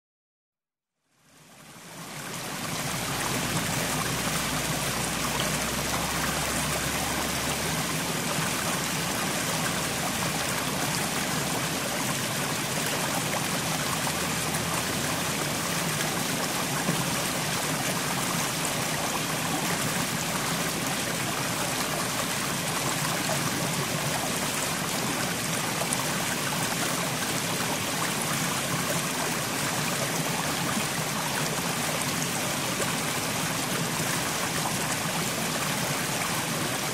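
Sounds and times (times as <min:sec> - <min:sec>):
stream flowing over rocks: 0:01.2 - 0:36.9.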